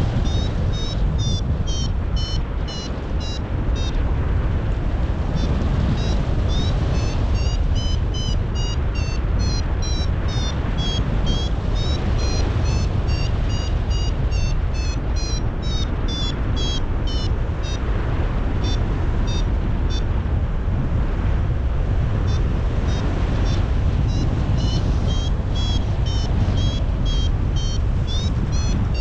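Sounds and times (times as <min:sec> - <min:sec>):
variometer short high beeps: 0:00.0 - 0:04.0, 0:05.4 - 0:17.9, 0:18.6 - 0:20.1, 0:22.3 - 0:29.0
wind rushing over microphone: 0:00.0 - 0:29.0.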